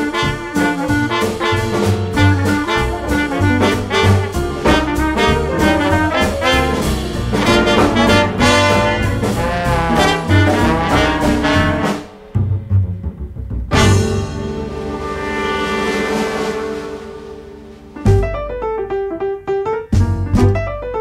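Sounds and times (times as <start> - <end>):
upbeat swing music with brass: 0.0 - 12.3, 13.0 - 18.6, 19.9 - 21.0.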